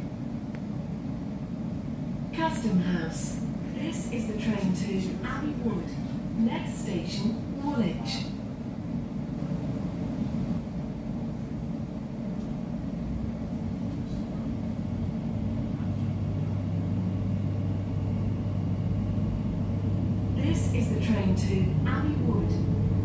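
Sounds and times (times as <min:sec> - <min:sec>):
traction equipment hum: 0:00.0 - 0:23.0
train running rumble: 0:00.0 - 0:23.0.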